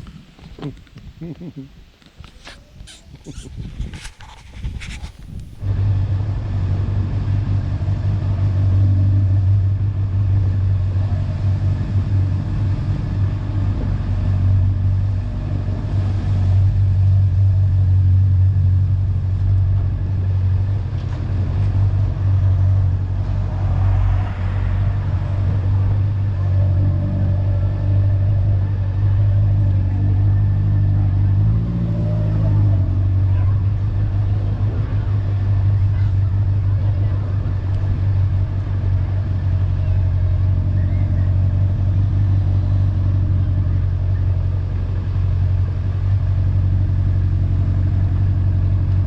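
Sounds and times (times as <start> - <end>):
motorcycle engine humming: 0.0 - 49.0.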